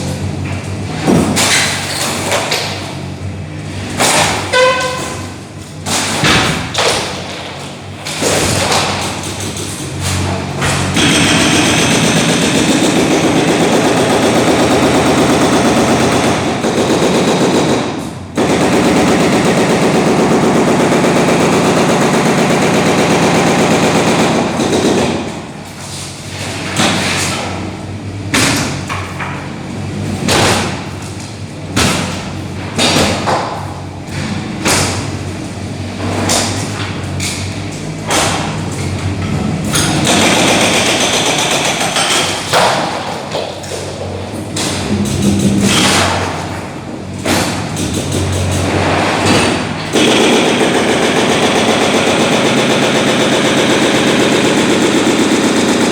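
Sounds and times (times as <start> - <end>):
demolition breaker hammering concrete: 0.0 - 55.9.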